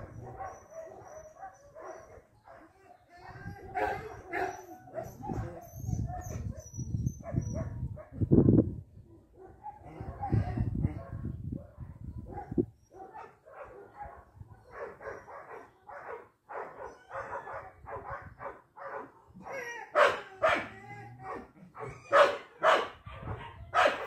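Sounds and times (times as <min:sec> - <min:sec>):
dog barking and yipping: 0:00.0 - 0:08.2, 0:12.3 - 0:24.0.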